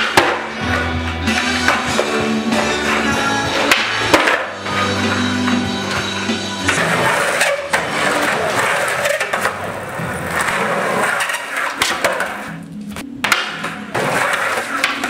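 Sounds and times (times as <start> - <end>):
skateboard clacking: 0.0 - 15.0
skateboard wheels rumbling: 0.0 - 15.0.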